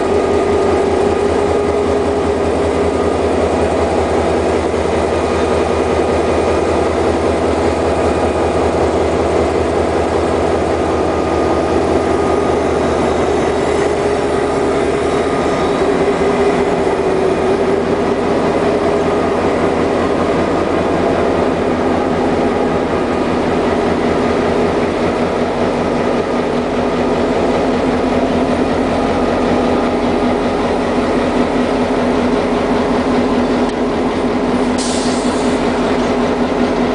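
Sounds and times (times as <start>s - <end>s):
locomotive diesel engine throbbing: 0.0s - 36.9s.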